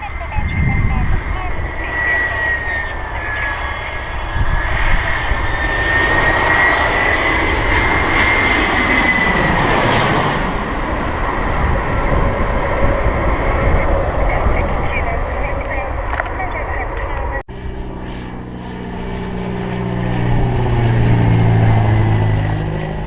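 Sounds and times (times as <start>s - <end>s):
aircraft engines passing: 0.0s - 23.0s
high engine whine: 0.0s - 23.0s
low rumble: 0.0s - 23.0s.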